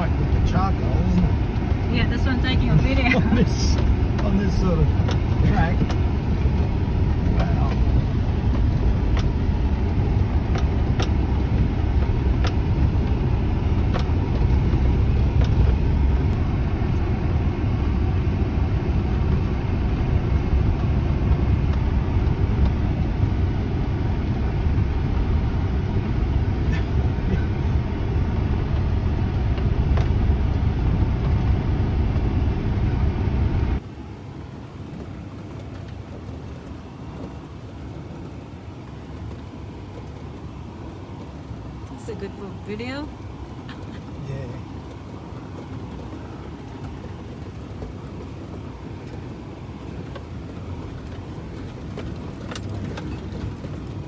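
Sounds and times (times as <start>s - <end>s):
car rumbling on dirt road: 0.0s - 54.0s.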